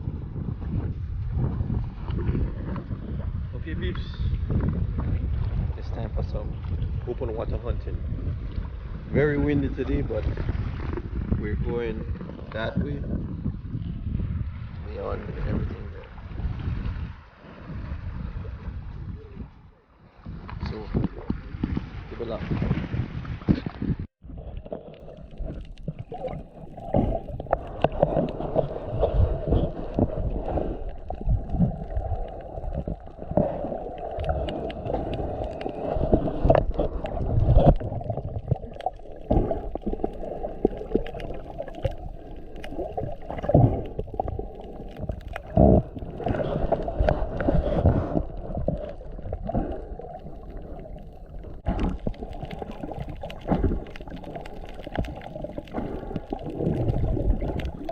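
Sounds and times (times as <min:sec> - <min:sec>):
muffled water sloshing and gurgling: 0:00.0 - 0:57.9.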